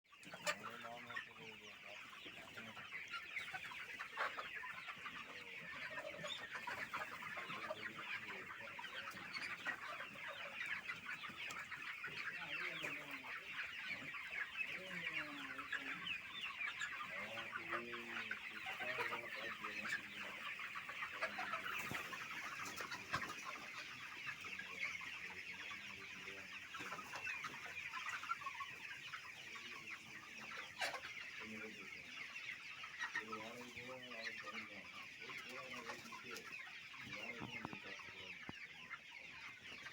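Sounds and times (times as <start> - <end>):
chickens clucking and calling: 0.1 - 39.9.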